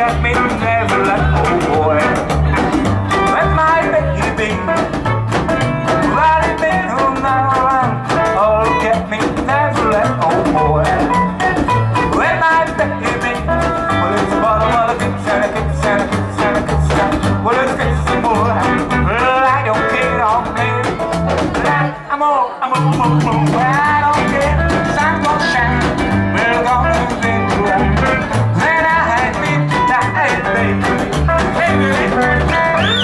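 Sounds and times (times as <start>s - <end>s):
walking upright double bass: 0.0s - 22.0s, 22.8s - 33.0s
electric guitar lead with bent notes: 0.0s - 22.1s, 22.7s - 33.0s
strummed acoustic rhythm guitar: 0.0s - 22.1s, 22.7s - 33.0s.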